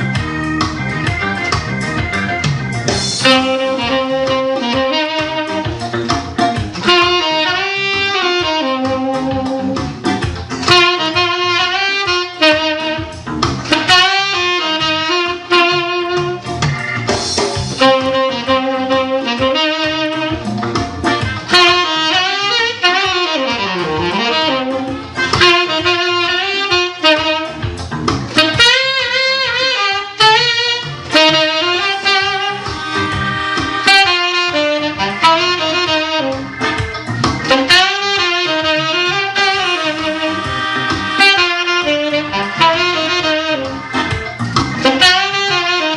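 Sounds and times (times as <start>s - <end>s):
backing track with steady beat: 0.0s - 45.9s
saxophone playing jazz melody: 0.0s - 45.9s.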